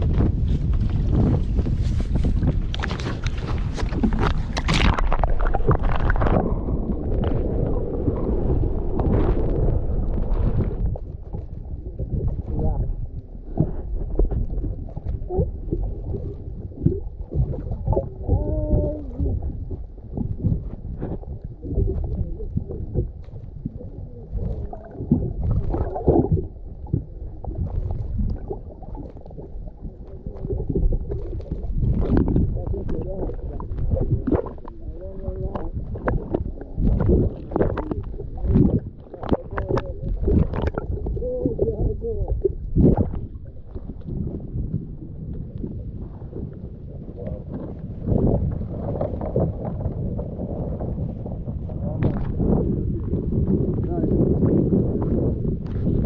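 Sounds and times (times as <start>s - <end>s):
boat engine low rumble: 0.0s - 56.0s
crackling and splashing: 0.0s - 56.0s
wind buffeting microphone: 0.0s - 56.0s.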